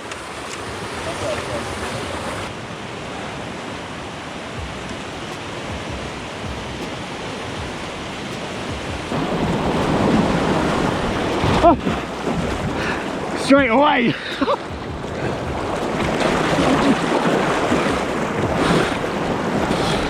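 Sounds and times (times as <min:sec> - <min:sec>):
floodwater rushing: 0:00.0 - 0:20.0
wind on microphone: 0:00.6 - 0:20.0.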